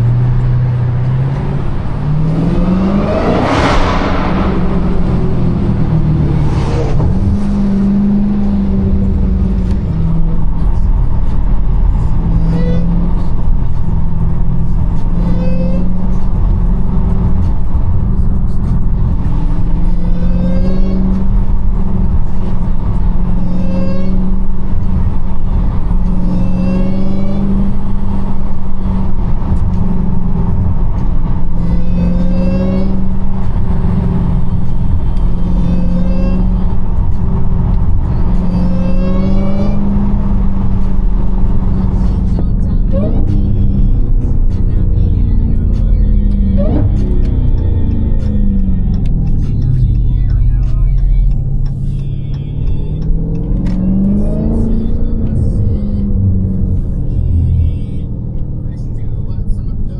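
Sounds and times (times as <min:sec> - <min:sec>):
car engine droning: 0:00.0 - 0:59.9
supercharger whine: 0:00.0 - 0:59.9.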